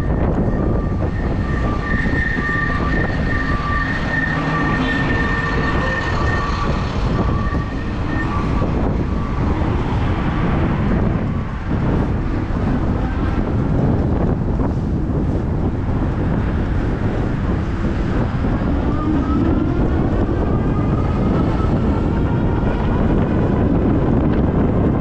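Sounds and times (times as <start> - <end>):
faint high pulsing whine: 0.0 - 23.7
steady low rumble: 0.0 - 25.0
wind rushing over microphone: 0.0 - 25.0.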